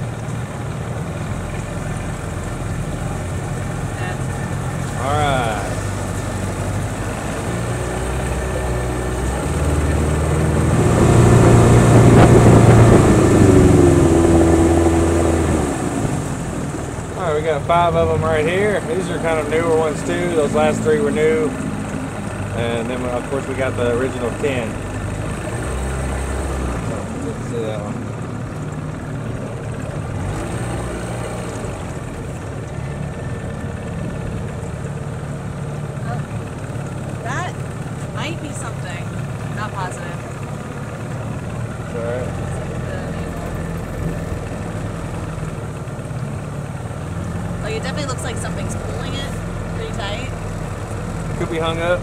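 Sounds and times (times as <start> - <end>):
outboard motor running: 0.0 - 52.0.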